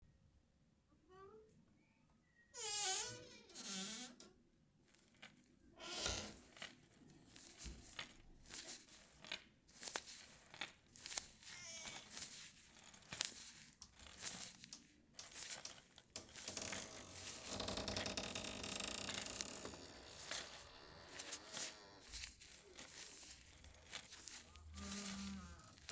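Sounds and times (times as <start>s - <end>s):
latex gloves crinkling: 4.8s - 25.9s.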